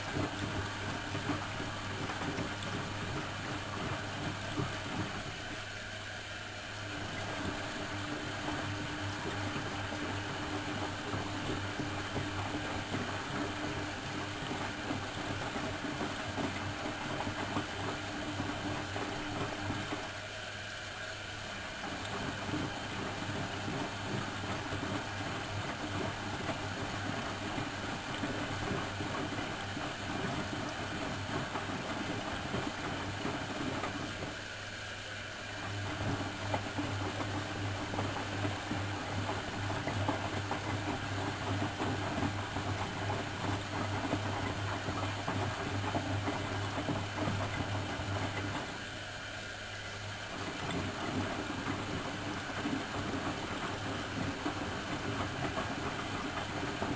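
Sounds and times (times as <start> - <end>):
washing machine running: 0.0 - 56.9.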